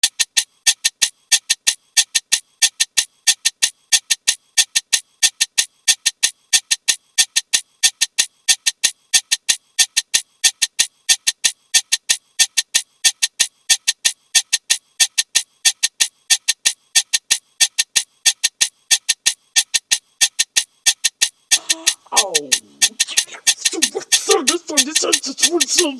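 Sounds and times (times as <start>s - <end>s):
short sharp high-pitched clicks: 0.0s - 25.9s.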